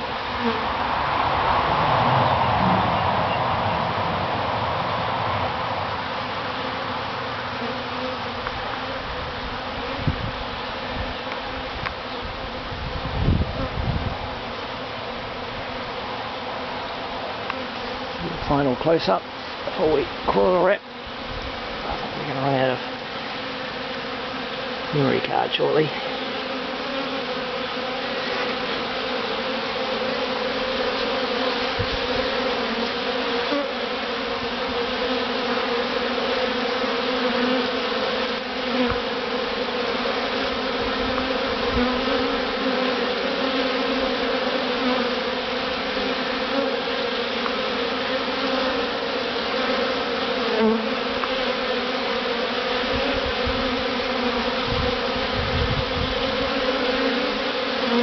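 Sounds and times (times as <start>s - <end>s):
honeybee swarm humming: 0.0s - 58.0s.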